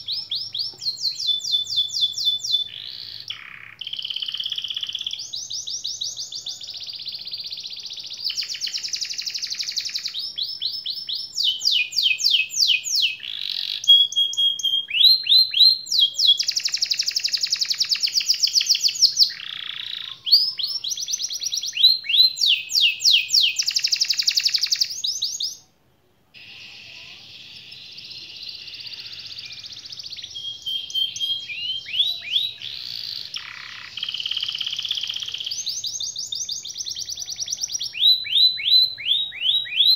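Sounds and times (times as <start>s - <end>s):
canary singing trills: 0.0s - 25.7s, 26.4s - 39.9s.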